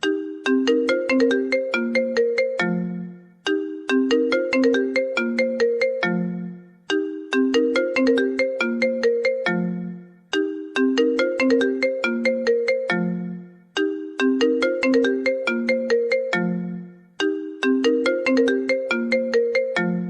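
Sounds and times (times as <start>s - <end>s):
phone ringtone melody: 0.0s - 20.0s.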